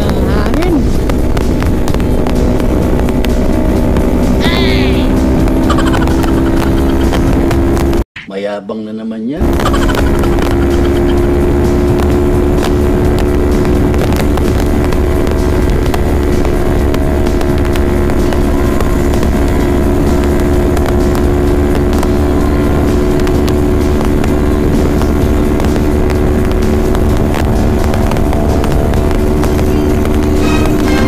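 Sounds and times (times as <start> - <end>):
motorcycle engine cruising: 0.0 - 8.0, 9.4 - 31.0
wind rushing on microphone: 0.0 - 8.0, 9.4 - 31.0.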